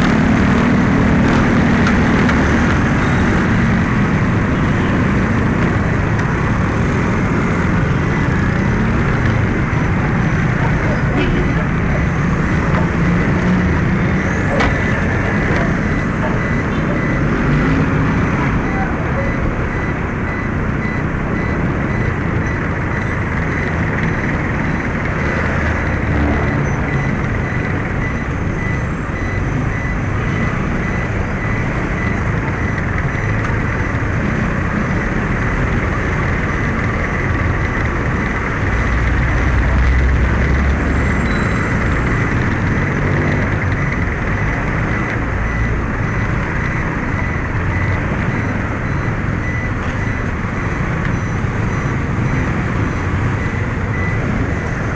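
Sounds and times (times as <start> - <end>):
scooter engine and road noise: 0.0 - 54.9
traffic: 0.0 - 54.9.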